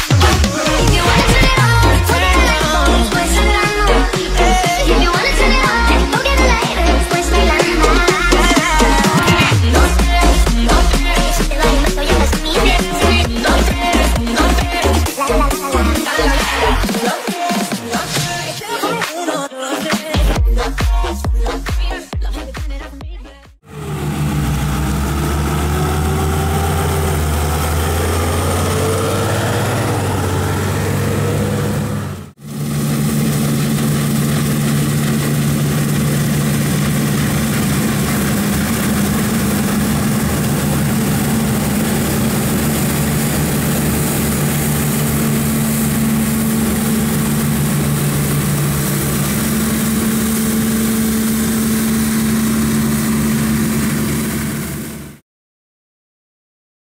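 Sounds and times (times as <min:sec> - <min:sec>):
combine harvester engine hum: 0:00.0 - 0:16.8, 0:23.7 - 0:55.2
diesel engine running: 0:00.0 - 0:17.0, 0:20.3 - 0:55.2.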